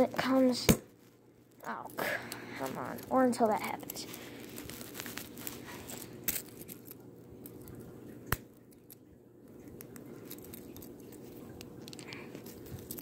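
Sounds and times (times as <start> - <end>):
rustling handling noise: 0.0 - 8.9, 9.6 - 13.0
low steady hum: 0.0 - 13.0.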